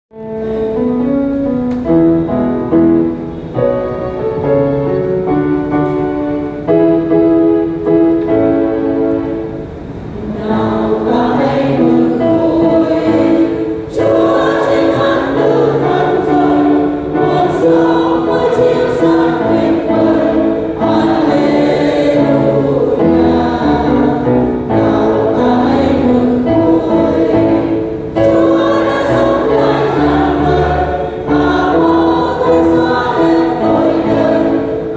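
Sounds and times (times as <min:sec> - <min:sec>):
choir singing a hymn: 0:02.2 - 0:34.9.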